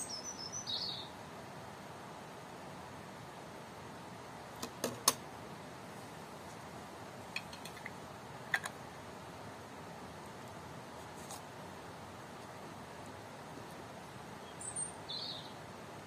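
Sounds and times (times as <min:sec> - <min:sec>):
low background hiss: 0:00.0 - 0:16.0.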